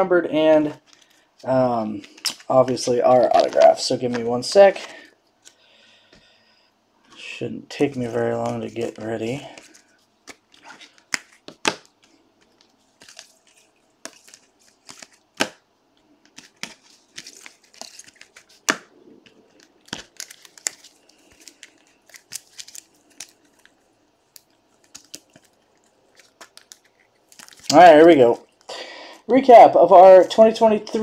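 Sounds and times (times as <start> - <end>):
plastic sleeves crinkling: 0.6 - 6.3, 7.1 - 28.7.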